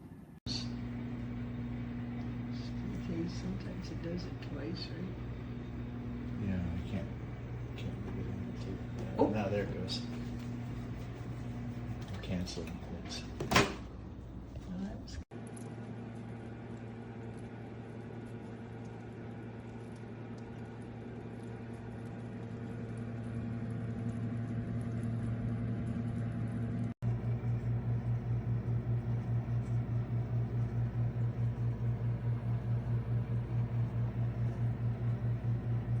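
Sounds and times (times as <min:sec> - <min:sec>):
microwave oven humming: 0:00.0 - 0:36.0.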